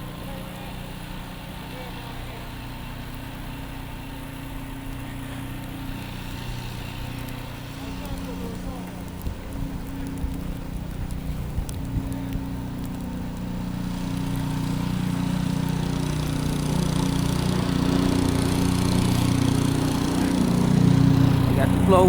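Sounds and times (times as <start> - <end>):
snow blower engine running: 0.0 - 22.0.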